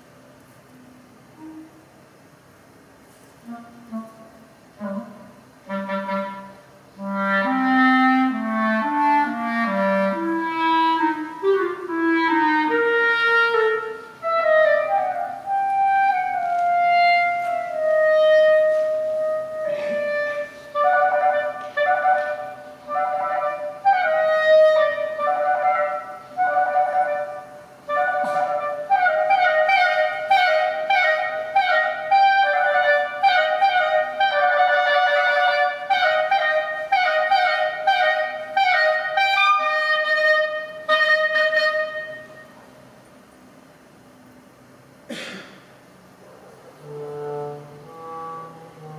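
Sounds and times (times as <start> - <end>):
solo clarinet melody: 1.3 - 2.2, 3.4 - 42.7, 46.8 - 48.9.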